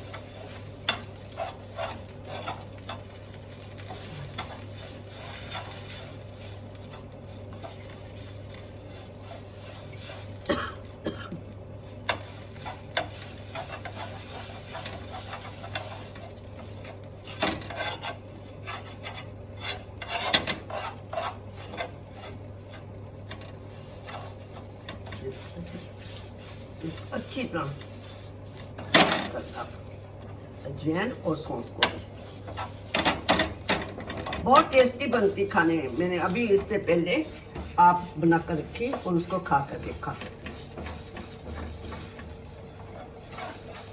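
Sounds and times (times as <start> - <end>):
spoon scraping and clicking on pan: 0.0 - 10.4, 11.8 - 26.7, 31.6 - 38.0, 38.8 - 43.9
ginger sizzling in a frying pan: 0.0 - 43.9.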